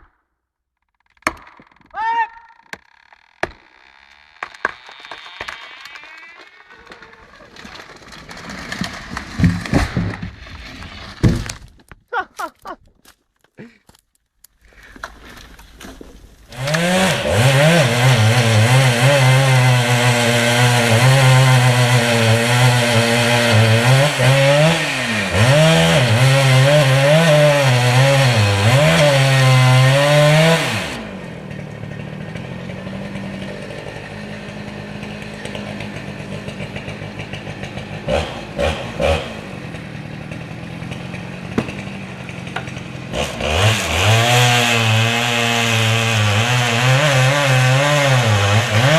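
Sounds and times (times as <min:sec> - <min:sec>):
chainsaw cutting wood: 0:02.6 - 0:11.8, 0:14.8 - 0:48.9.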